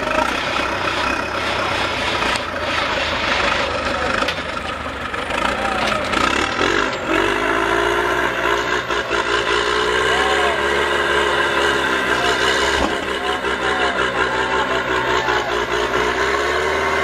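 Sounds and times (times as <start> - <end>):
faint crowd chatter: 0.0 - 6.8, 9.8 - 17.0
engine revving: 0.0 - 17.0
heavy engines running under load: 0.0 - 17.0.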